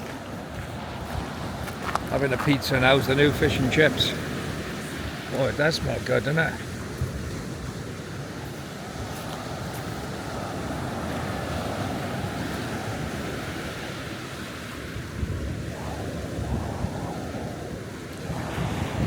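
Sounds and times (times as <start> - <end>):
surf washing on shore: 0.0 - 19.0
wind buffeting microphone: 0.0 - 19.0.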